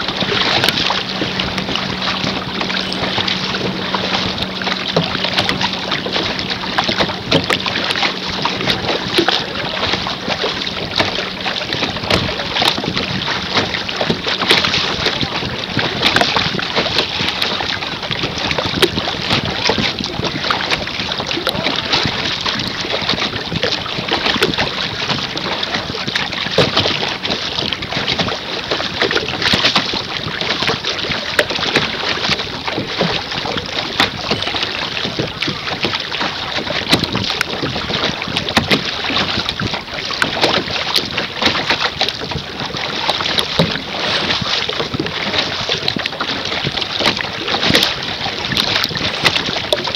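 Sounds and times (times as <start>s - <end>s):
water splashing against canoe bow: 0.0s - 49.9s
wind buffeting microphone: 0.0s - 49.9s.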